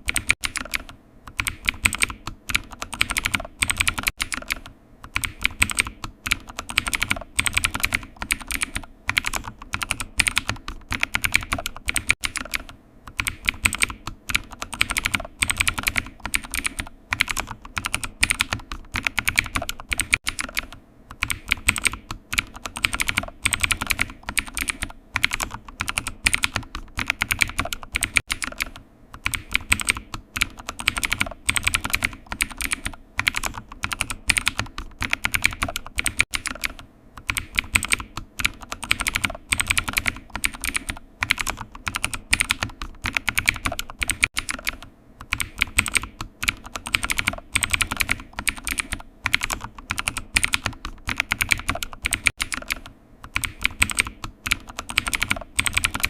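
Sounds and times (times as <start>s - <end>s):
typing on computer keyboard: 0.0s - 56.0s.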